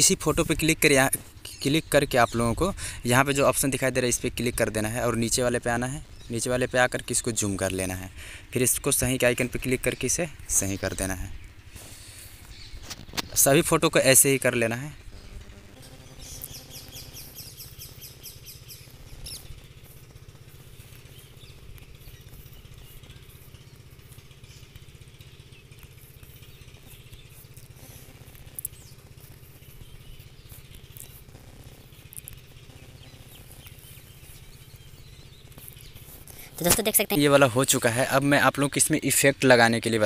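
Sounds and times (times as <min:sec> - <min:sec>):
birds chirping: 0:00.0 - 0:40.0
low room hum: 0:00.0 - 0:40.0.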